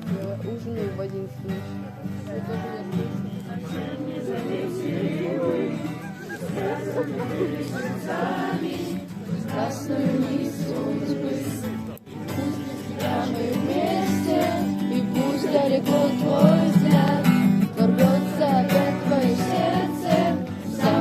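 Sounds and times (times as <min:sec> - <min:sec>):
strummed acoustic guitar: 0:00.0 - 0:21.0
group of voices singing: 0:02.2 - 0:21.0.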